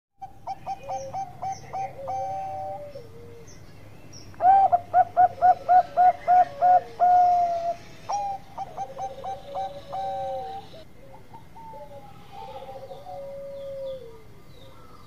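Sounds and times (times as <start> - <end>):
dove cooing: 0.2 - 3.6, 4.4 - 15.0.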